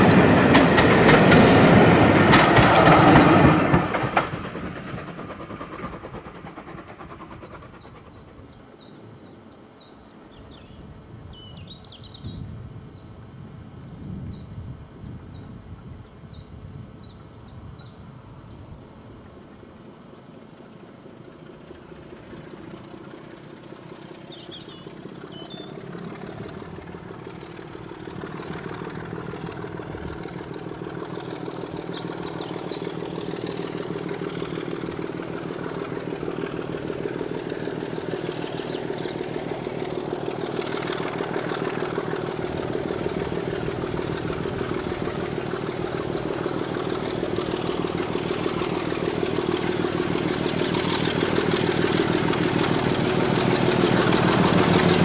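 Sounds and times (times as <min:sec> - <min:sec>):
diesel locomotive engine throbbing: 0:00.0 - 0:19.4, 0:20.7 - 0:55.0.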